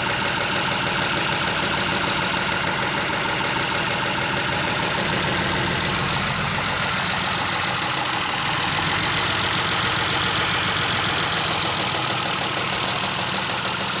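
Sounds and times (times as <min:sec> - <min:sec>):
engine idling with knocking clatter: 0:00.0 - 0:14.0.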